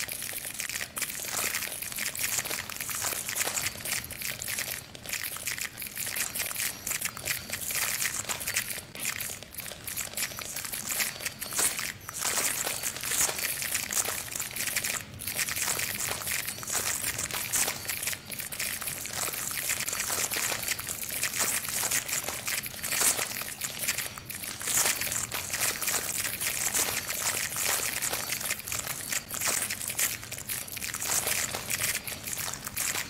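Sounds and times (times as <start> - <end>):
dense high-pitched crackling: 0.0 - 33.0.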